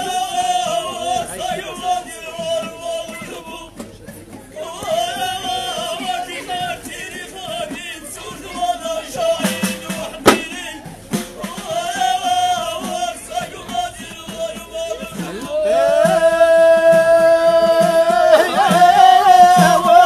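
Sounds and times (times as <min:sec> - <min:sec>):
frame drums: 0:00.0 - 0:20.0
men singing a chant: 0:00.0 - 0:20.0.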